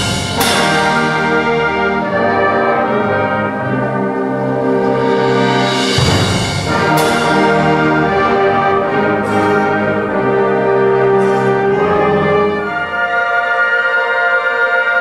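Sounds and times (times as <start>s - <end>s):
orchestral brass chords: 0.0s - 15.0s.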